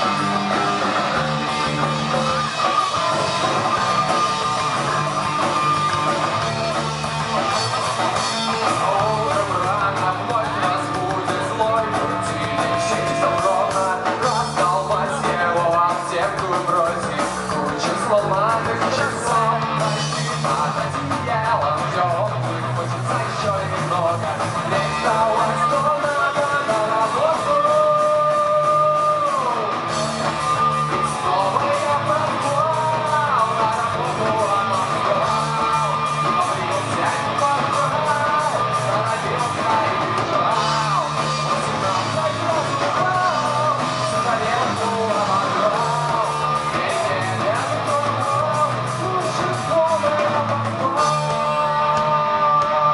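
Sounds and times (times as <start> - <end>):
driving drum beat: 0.0 - 52.9
guitars: 0.0 - 52.9
rock band playing: 0.0 - 52.9.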